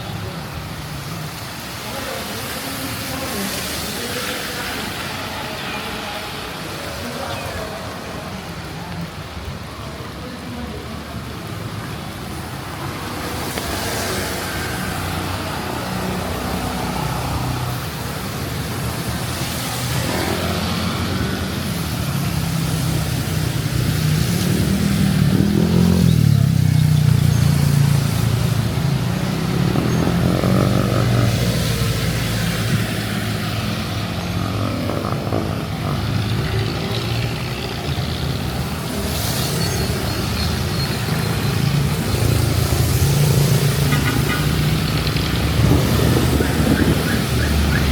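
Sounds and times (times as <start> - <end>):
vehicles passing on wet road: 0.0 - 47.9
rain hiss: 0.1 - 47.9.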